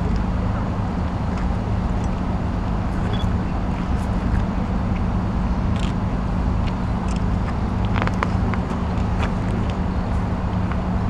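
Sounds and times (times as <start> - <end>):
constant low hum: 0.0 - 11.0
low traffic rumble: 0.0 - 11.0.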